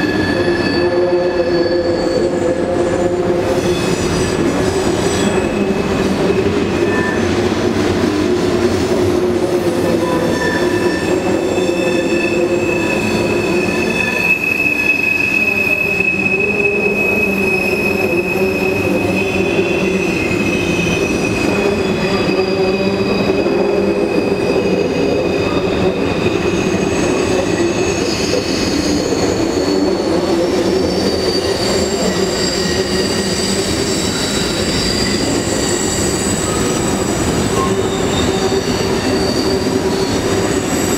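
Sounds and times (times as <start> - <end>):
high wheel squeal: 0.0 - 7.4, 9.8 - 40.9
train wheels rumbling on rails: 0.0 - 40.9.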